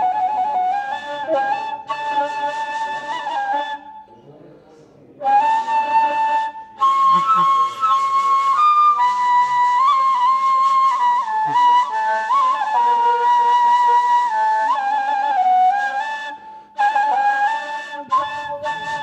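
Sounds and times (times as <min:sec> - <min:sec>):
reed flute slow melody: 0:00.0 - 0:04.1, 0:05.2 - 0:19.0.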